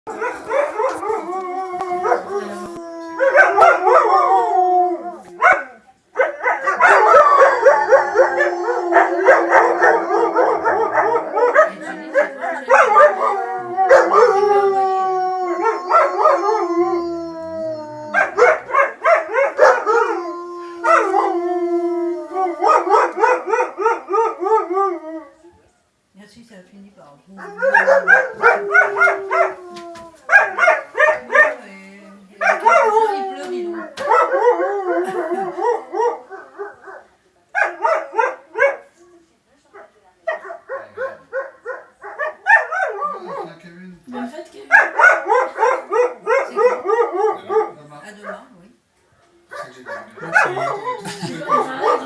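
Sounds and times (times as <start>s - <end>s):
dogs howling in chorus: 0.1s - 25.7s, 27.4s - 31.7s, 32.4s - 38.8s, 40.4s - 43.6s, 44.7s - 47.8s, 49.8s - 52.0s.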